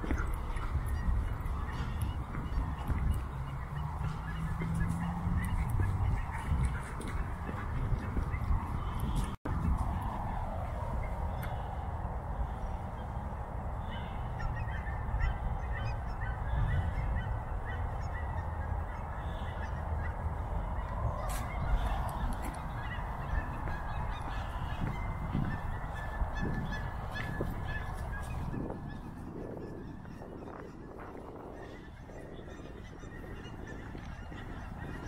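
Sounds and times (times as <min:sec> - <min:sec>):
honking bird calls: 0:00.0 - 0:09.4, 0:11.0 - 0:35.0.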